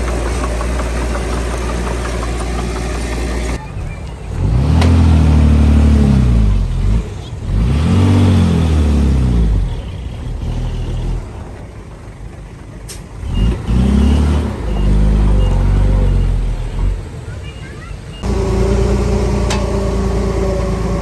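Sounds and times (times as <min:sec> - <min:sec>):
diesel machinery engine revving: 0:00.0 - 0:21.0.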